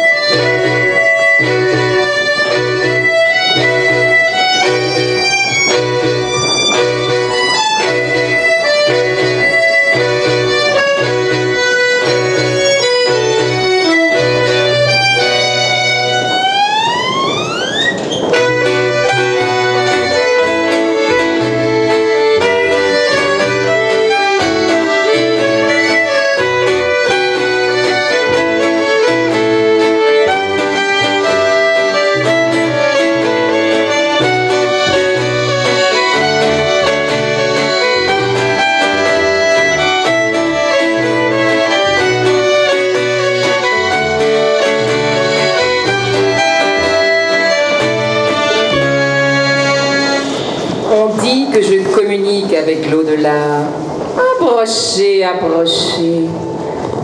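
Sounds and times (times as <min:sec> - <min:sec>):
fiddle and accordion folk dance music: 0:00.0 - 0:57.0.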